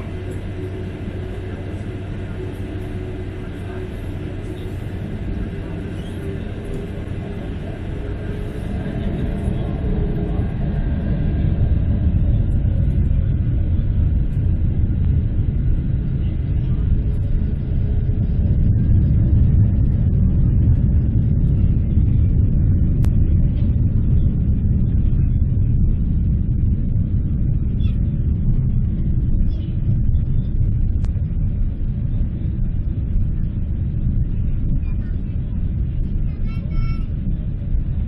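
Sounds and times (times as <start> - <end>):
faint whine: 0.0 - 38.0
jet engines rumbling: 0.0 - 38.0.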